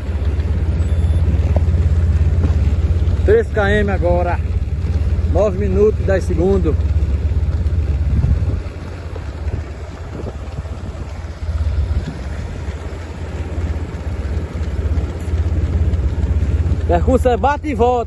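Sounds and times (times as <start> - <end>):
wind buffeting microphone: 0.0 - 17.5.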